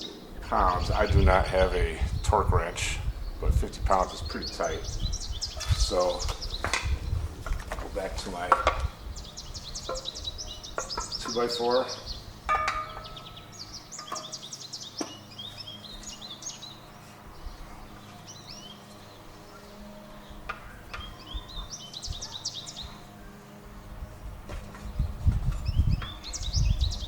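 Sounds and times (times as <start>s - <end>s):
songbirds singing trills: 0.0s - 27.0s.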